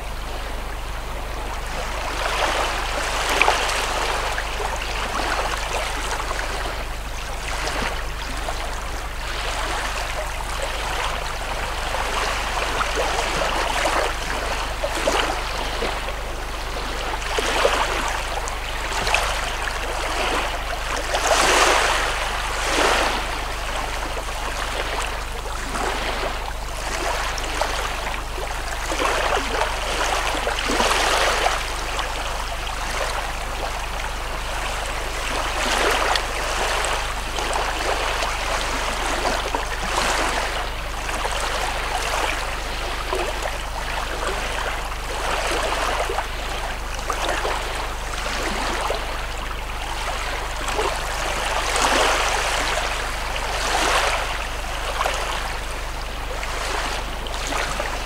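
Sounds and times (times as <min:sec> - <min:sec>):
small waves on stony beach: 0:00.0 - 0:58.0
steady low rumble: 0:00.0 - 0:58.0.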